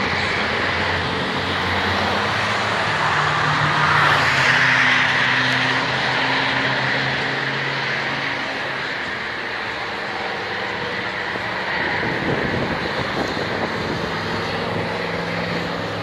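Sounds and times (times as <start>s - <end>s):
sports cars driving past: 0.0s - 16.0s.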